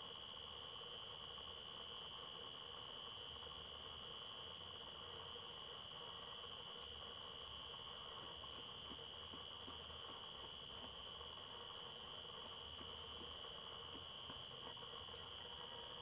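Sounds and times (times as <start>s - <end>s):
shrill insect drone: 0.0s - 16.0s.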